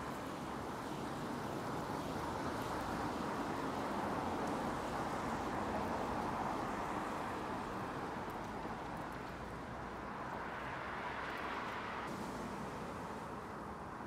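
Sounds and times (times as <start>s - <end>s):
rain hissing on street: 0.0s - 14.0s.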